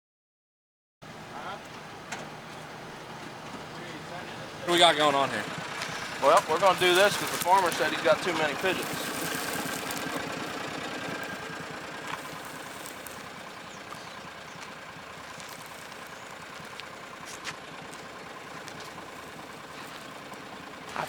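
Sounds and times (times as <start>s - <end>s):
engine idling: 1.0s - 21.0s.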